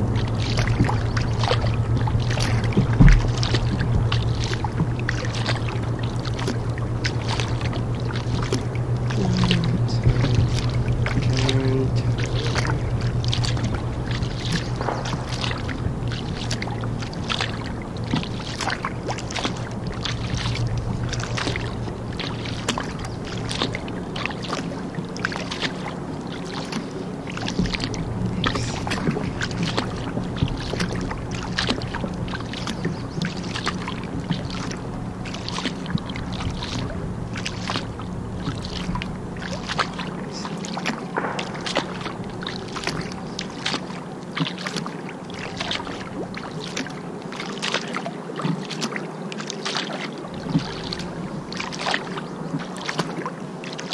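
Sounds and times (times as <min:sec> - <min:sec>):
water dripping: 0:00.0 - 0:43.8
paddle splashing in water: 0:00.0 - 0:53.9
steady low hum: 0:00.0 - 0:53.9.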